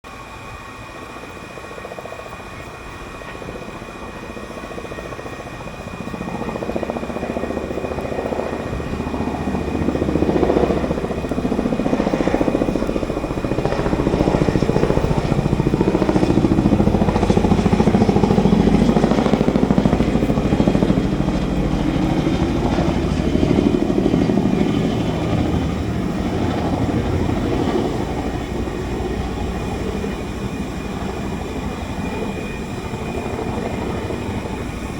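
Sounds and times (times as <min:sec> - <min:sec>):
helicopter rotors beating: 0:00.1 - 0:34.9.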